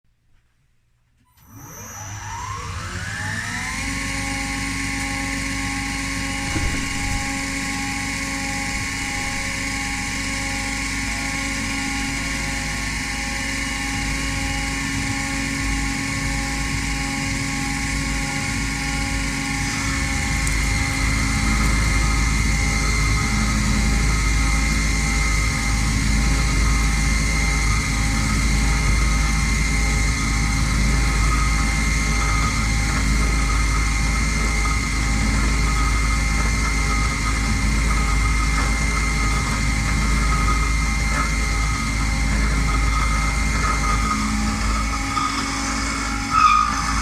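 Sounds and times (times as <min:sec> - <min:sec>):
milling machine motor whine: 0:01.3 - 0:47.0
low rumble: 0:06.3 - 0:47.0.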